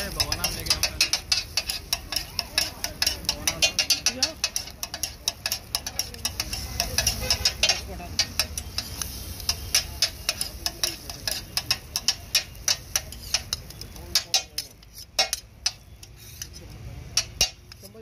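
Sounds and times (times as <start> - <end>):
metal spatulas clacking on griddle: 0.0 - 18.0.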